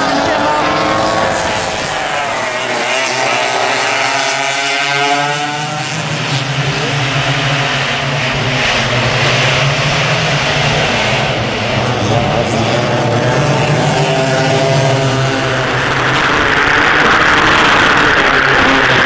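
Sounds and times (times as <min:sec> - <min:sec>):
racing kart engines revving: 0:00.0 - 0:19.0.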